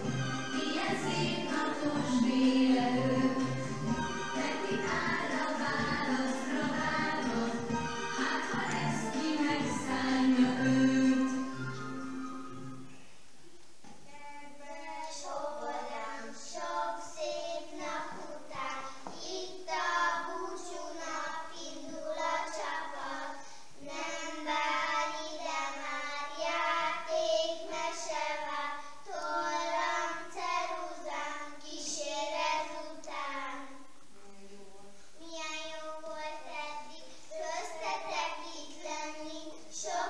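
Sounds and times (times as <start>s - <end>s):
young children singing: 0.0s - 13.0s, 14.0s - 40.0s.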